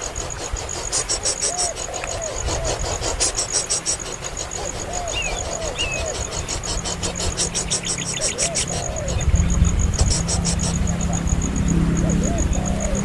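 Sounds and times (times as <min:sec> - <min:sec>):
low arching calls: 0:00.0 - 0:13.0
rapid high-pitched chirping: 0:00.0 - 0:13.0.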